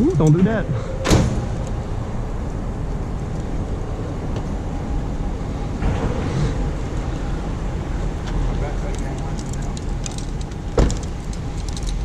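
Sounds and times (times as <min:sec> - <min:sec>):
motor vehicle engine rumble: 0:00.0 - 0:12.0.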